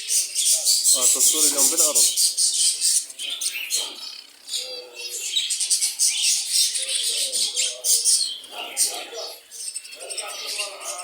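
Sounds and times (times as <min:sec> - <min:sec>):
birds chattering and chirping: 0:00.0 - 0:11.0.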